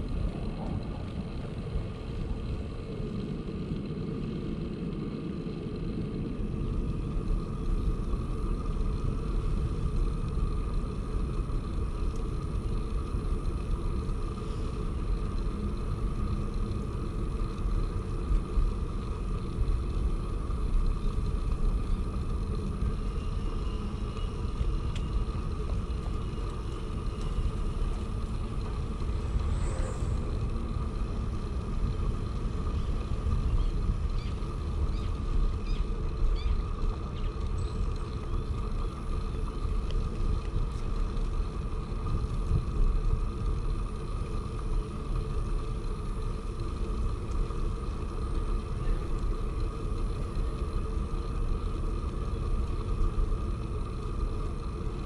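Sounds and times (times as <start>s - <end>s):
steady hum: 0.0s - 55.0s
wind rumbling on microphone: 0.0s - 55.0s.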